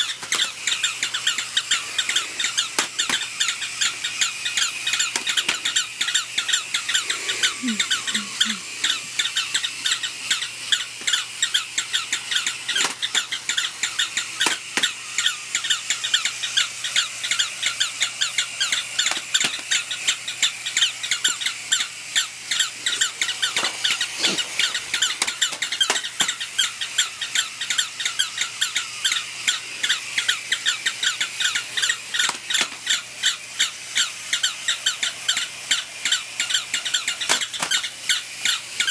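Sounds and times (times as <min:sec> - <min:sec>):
electronic toy dogs yipping: 0:00.0 - 0:38.9.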